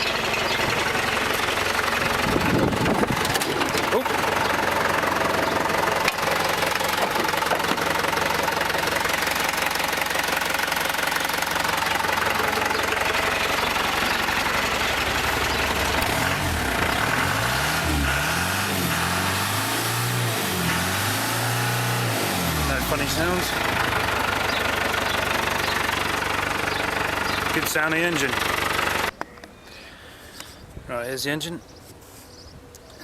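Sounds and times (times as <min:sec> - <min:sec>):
diesel engine idling: 0:00.0 - 0:29.2.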